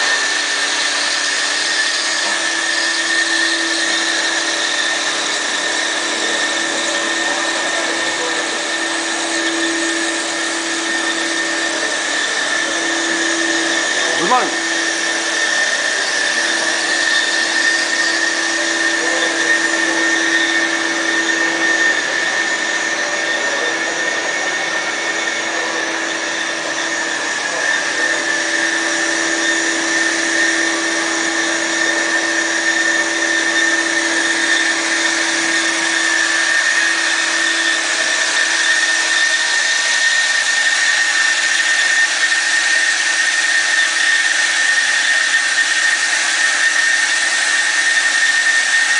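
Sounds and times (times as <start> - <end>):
band saw running: 0.0 - 48.9.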